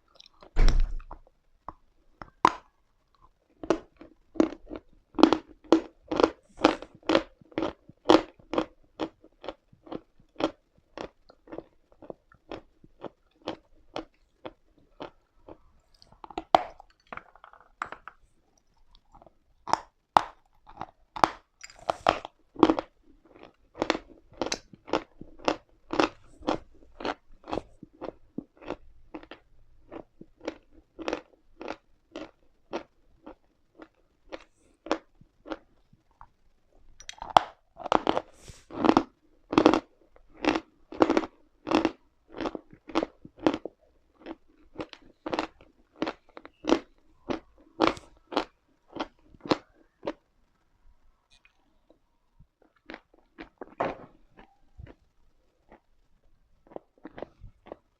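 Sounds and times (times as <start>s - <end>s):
person chewing chalk: 1.2s - 36.3s, 37.0s - 50.2s, 52.6s - 55.9s, 56.6s - 57.9s.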